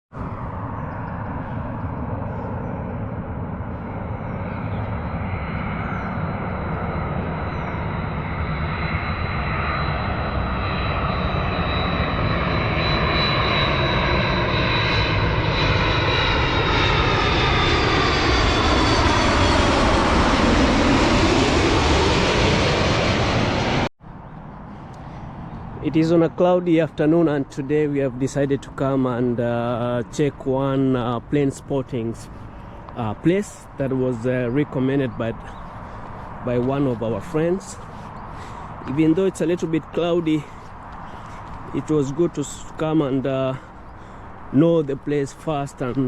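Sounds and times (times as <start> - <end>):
jet airliner passing overhead: 0.1 - 46.0.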